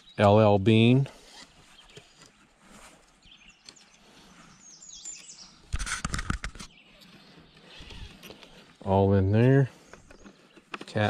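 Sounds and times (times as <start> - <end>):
bird chirping: 0.0 - 2.5, 3.1 - 5.8, 6.5 - 9.0, 9.7 - 11.0.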